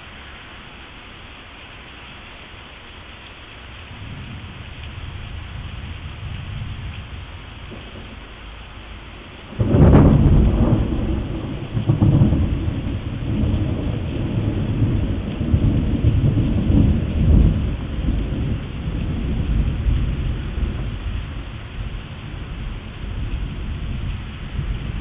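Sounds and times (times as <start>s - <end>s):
heavy rain hissing: 0.0s - 25.0s
thunderclap and rumble: 3.7s - 25.0s.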